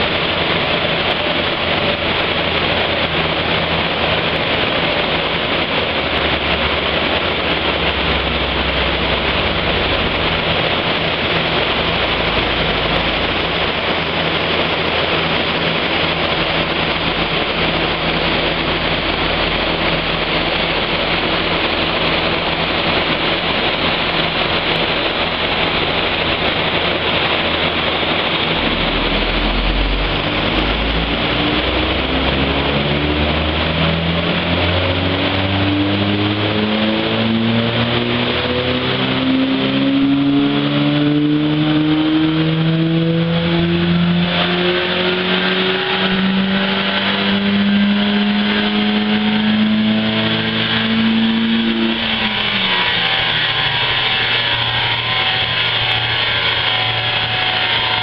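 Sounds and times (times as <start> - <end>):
car engine revving on dyno: 0.0 - 58.0.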